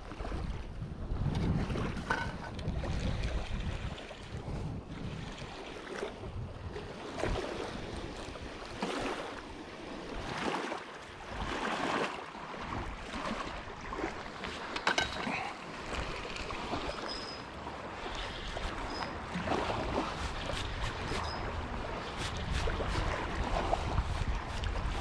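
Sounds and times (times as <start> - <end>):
lake water lapping: 0.0 - 25.0.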